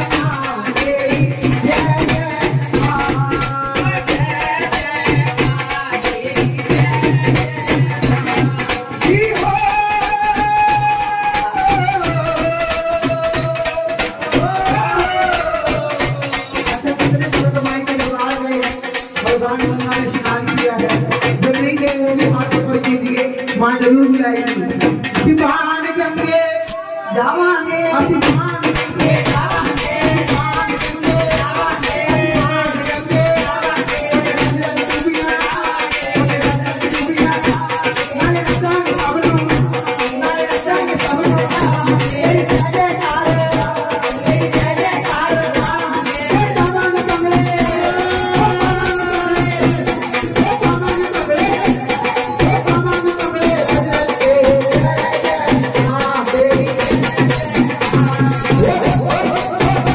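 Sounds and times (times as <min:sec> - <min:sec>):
drum steady beat: 0:00.0 - 0:59.9
shaken hand percussion: 0:00.0 - 0:59.9
woman singing into microphone: 0:00.0 - 0:59.9.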